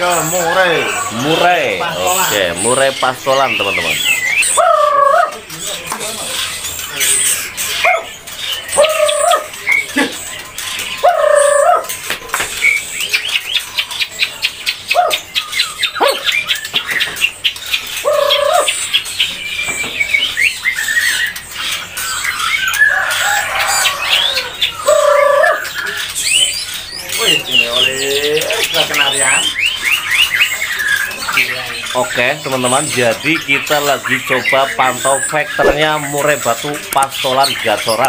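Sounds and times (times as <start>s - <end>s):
fast high bird trills: 0.0s - 38.0s.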